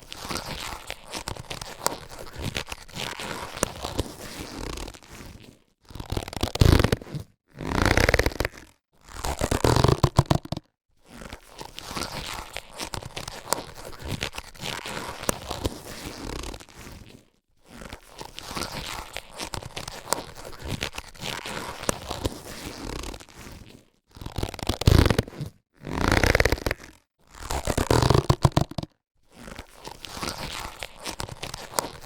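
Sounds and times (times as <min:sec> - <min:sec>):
latex gloves crinkling and snapping: 0:00.0 - 0:32.0.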